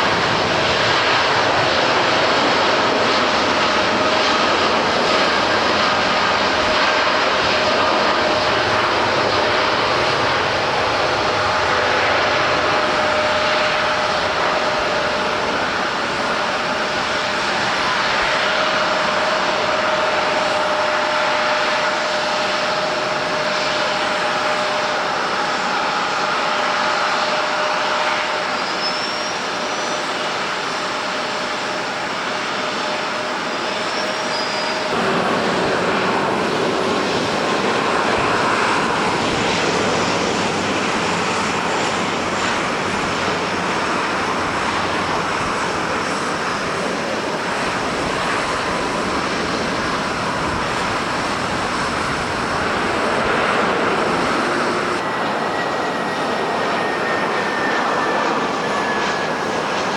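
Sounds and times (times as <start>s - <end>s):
airliner engines whining: 0.0s - 59.9s
gusty wind: 0.0s - 59.9s.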